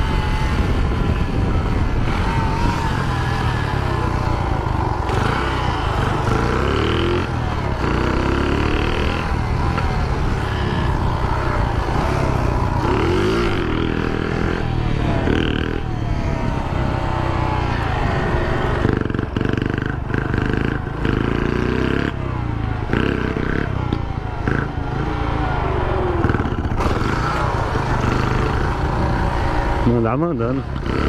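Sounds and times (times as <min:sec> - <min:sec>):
small motorcycle engine running: 0:00.0 - 0:31.0.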